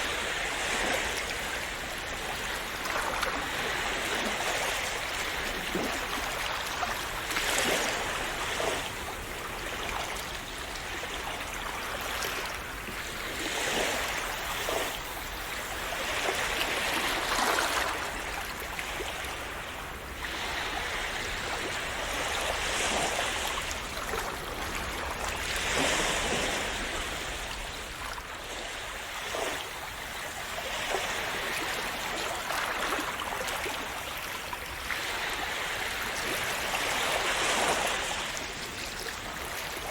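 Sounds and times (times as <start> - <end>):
calm sea waves lapping: 0.0 - 39.9.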